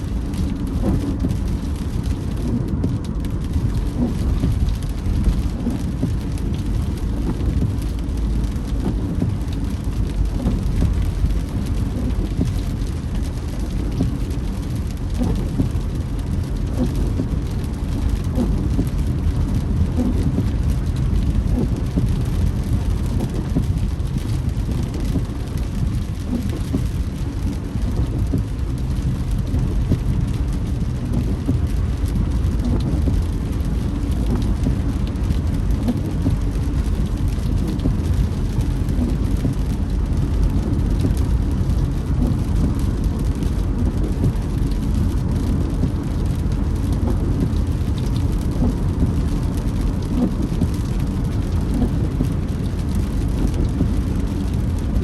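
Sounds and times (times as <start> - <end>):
car tyres on wet road: 0.0 - 55.0
rain pattering on a car: 0.0 - 55.0.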